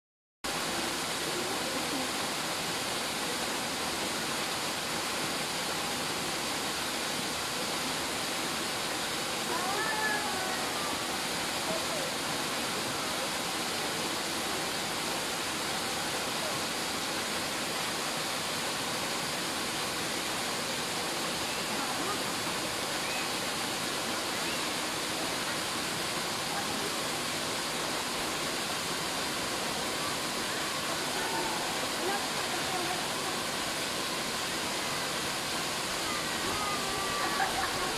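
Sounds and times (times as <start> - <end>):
waterfall pouring into pool: 0.5 - 37.9.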